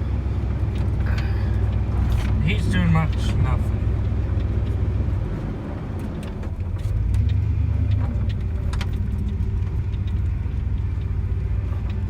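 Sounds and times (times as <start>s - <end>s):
pickup truck engine and road drone: 0.0s - 12.0s
light clicks and rattles: 0.5s - 12.0s.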